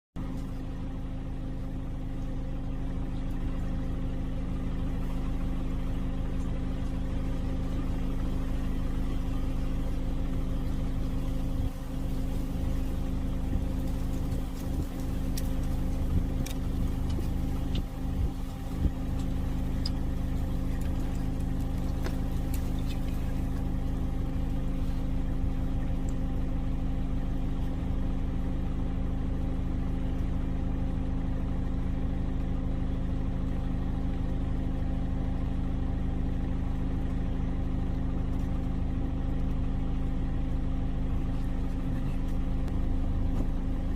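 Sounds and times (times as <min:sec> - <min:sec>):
engine idling: 0:00.2 - 0:43.9.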